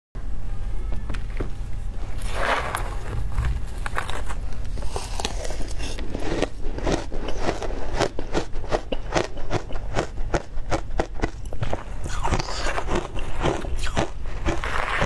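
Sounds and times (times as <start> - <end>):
crunching and chewing ice: 2.0 - 15.0.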